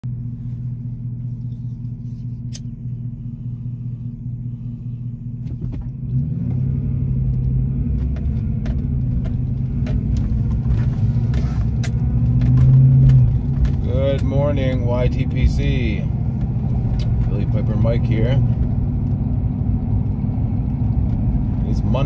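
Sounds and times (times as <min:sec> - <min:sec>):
car engine rumble in cabin: 0:00.0 - 0:22.0.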